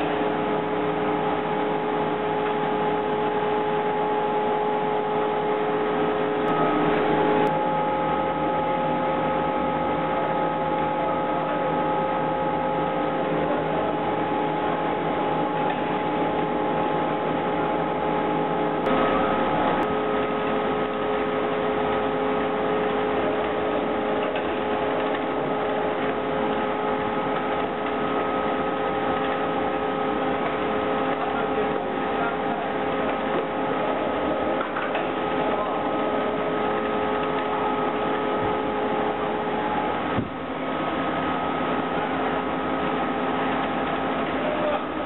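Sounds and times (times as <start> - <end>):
machine running with hum tones: 0.0 - 45.0.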